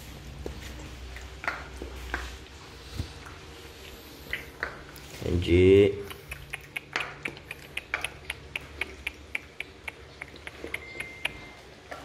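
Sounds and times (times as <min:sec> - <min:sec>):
puppy crunching kibble: 0:00.0 - 0:12.0.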